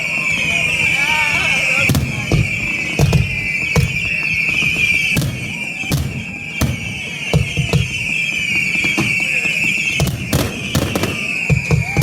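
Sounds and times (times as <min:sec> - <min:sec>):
firework shells bursting: 0:01.8 - 0:12.0.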